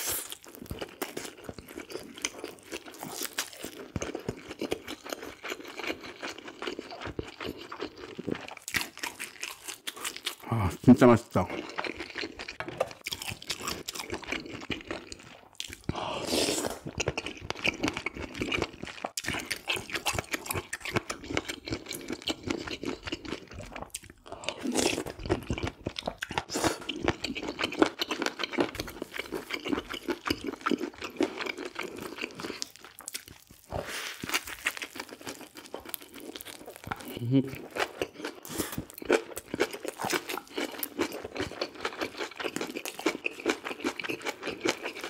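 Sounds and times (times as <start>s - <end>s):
crunchy chewing: 0.0s - 10.5s, 11.4s - 45.0s.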